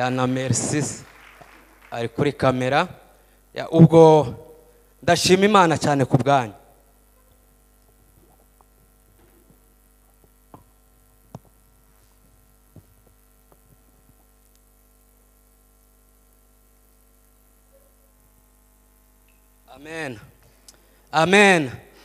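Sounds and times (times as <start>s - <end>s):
faint mains hum: 0.0s - 22.0s.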